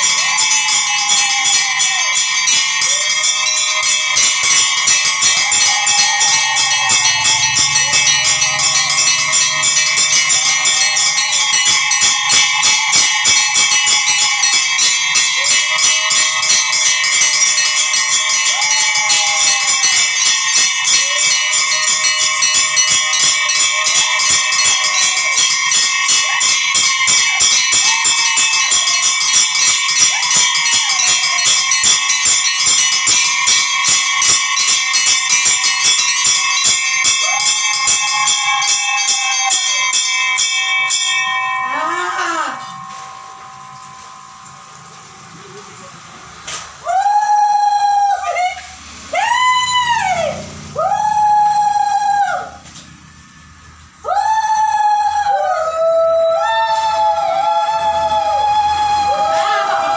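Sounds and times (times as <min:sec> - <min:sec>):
long wavering tones: 0:00.0 - 0:59.9
temple bells ringing rapidly: 0:00.0 - 0:59.9.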